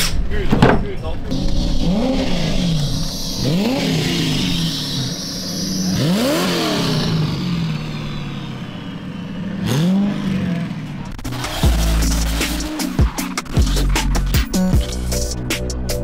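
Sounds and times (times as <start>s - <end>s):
car engine revving: 0.4s - 15.6s.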